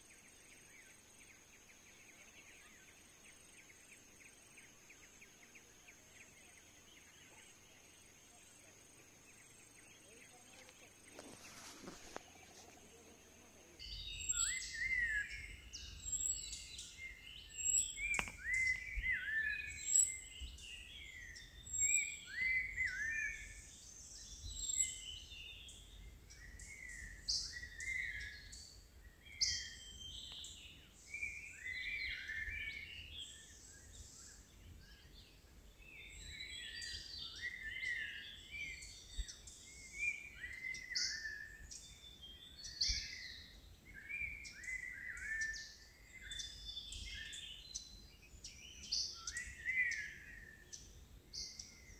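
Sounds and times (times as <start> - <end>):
birds calling: 0.0 - 51.9.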